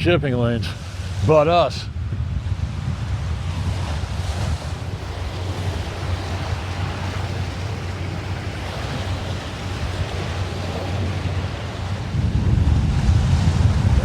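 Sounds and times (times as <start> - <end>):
boat engine droning: 0.0 - 14.0
wind noise on microphone: 0.0 - 14.0.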